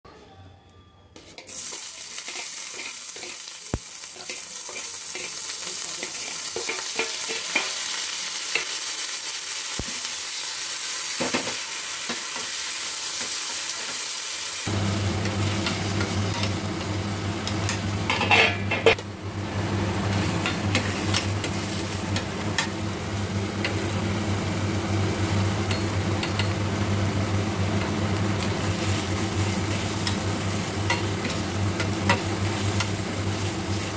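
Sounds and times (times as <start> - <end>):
vegetables sizzling in oil: 1.4 - 33.9.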